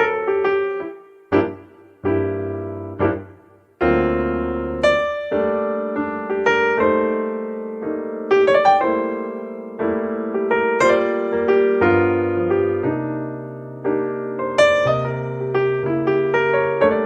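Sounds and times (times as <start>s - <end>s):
cheerful piano music: 0.0s - 17.0s.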